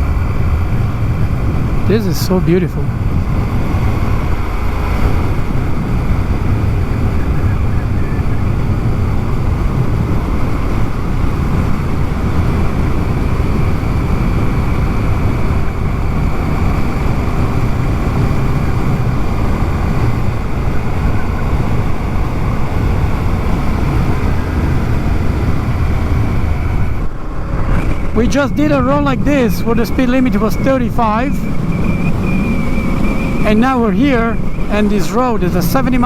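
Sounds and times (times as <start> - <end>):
motorcycle engine cruising: 0.0 - 36.0
wind rushing over microphone: 0.0 - 36.0.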